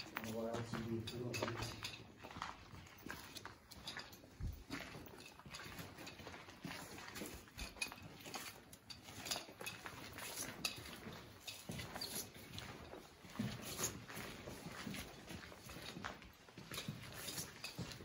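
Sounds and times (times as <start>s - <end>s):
footsteps on concrete with debris: 0.0s - 18.0s.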